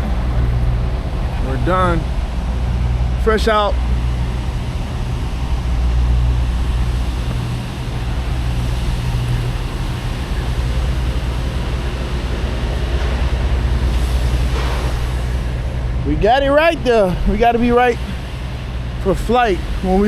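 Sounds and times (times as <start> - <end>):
constant rushing noise: 0.0 - 20.0
diesel truck engine running: 0.0 - 20.0.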